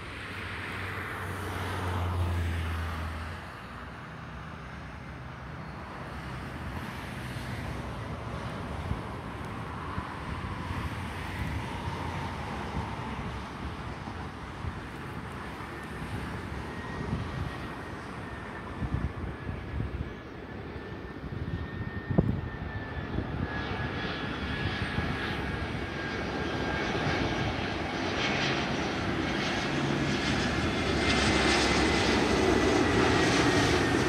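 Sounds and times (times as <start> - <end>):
distant jet engine rumble: 0.0 - 34.0
faint high jet whine: 0.0 - 34.0.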